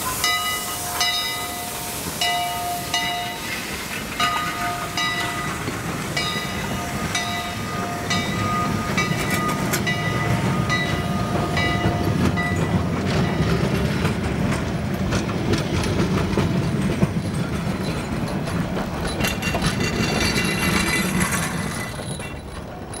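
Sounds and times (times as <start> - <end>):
railway wheels clicking and rattling: 0.0 - 23.0.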